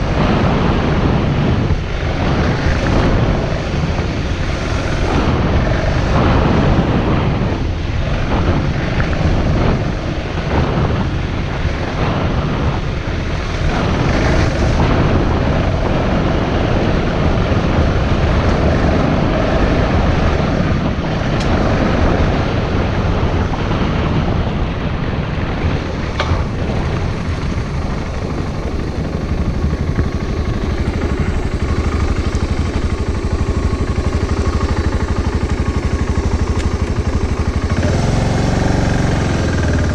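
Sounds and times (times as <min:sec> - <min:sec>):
bicycle tyre and road noise: 0:00.0 - 0:39.9
wind rumble on microphone: 0:00.0 - 0:39.9.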